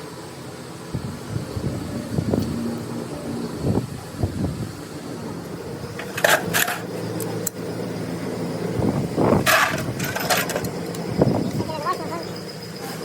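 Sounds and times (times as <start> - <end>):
workshop machine humming: 0.0 - 13.0.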